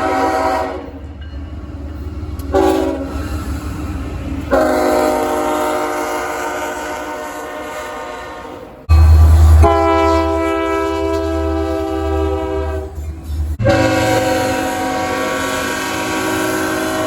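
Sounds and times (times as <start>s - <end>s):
train horn chords: 0.0s - 1.0s, 2.5s - 3.2s, 4.5s - 17.0s
low rumble of train: 0.0s - 17.0s.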